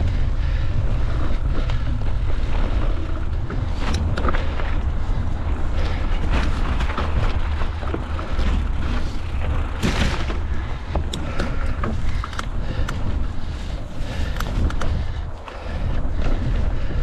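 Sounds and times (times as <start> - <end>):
mountain bike rattling on trail: 0.0 - 17.0
wind buffeting microphone: 0.0 - 17.0.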